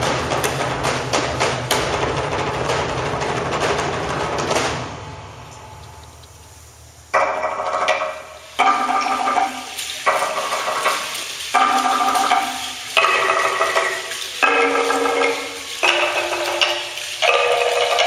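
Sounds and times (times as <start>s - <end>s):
rattle-like shaking: 0.0s - 18.0s.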